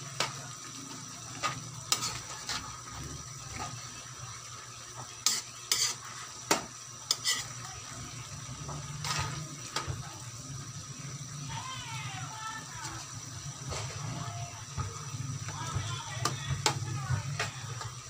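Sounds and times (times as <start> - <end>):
frying sizzle: 0.0 - 18.0.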